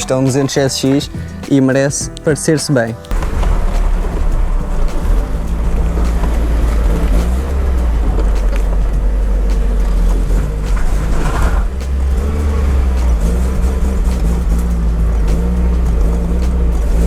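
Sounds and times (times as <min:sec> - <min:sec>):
car engine low rumble: 0:03.1 - 0:17.0.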